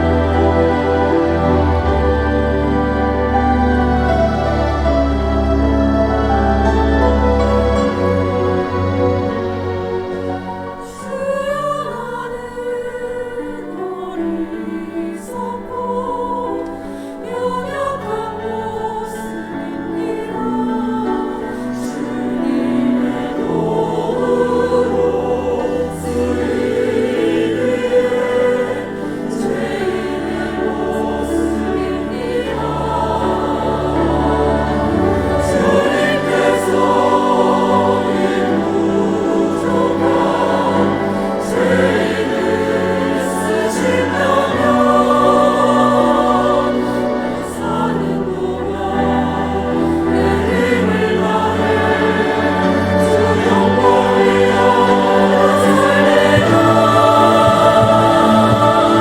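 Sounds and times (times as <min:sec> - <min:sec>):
church choir singing: 0:00.0 - 0:59.0
sustained low accompaniment: 0:00.0 - 0:59.0.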